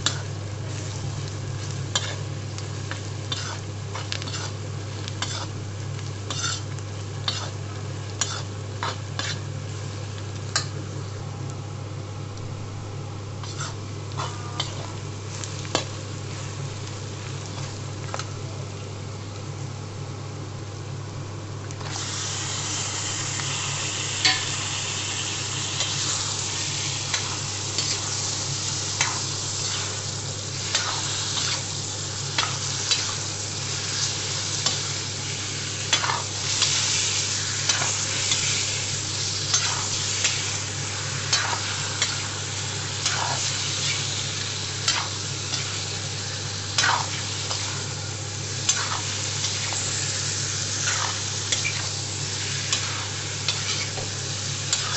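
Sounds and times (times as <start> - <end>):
food sizzling in a pan: 0.0 - 20.1, 21.3 - 54.9.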